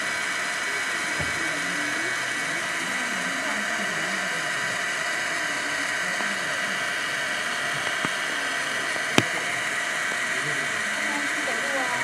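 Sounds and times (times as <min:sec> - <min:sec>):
faint distant voices: 0:00.4 - 0:12.0.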